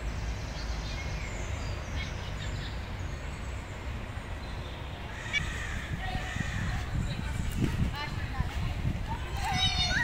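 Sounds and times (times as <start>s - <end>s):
birds chirping faintly: 0.0s - 10.0s.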